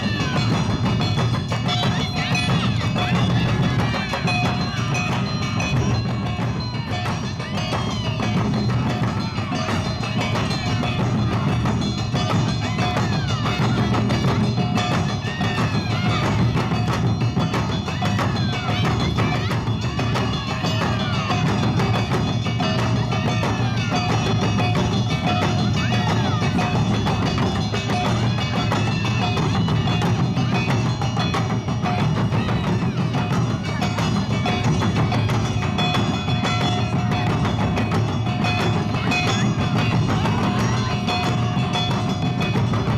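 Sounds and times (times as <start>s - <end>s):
drums: 0.0s - 42.9s.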